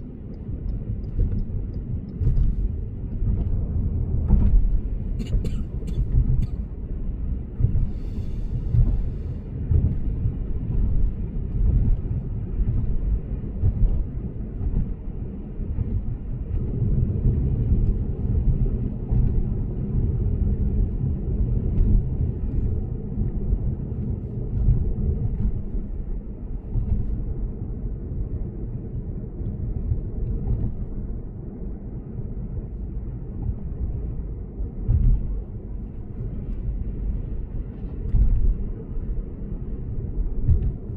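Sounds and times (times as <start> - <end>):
road and tyre rumble inside car: 0.0 - 40.9.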